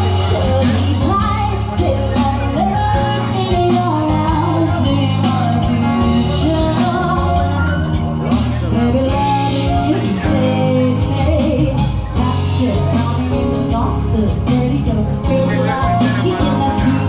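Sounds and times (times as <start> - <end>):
rock-pop song with singer: 0.0 - 17.0.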